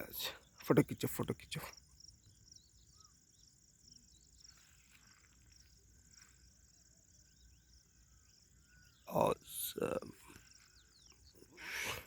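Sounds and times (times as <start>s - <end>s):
soft chirps: 1.5s - 12.0s.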